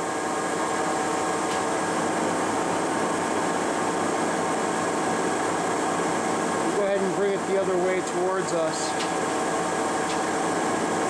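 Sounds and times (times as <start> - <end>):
boring mill mechanical hum: 0.0 - 11.0.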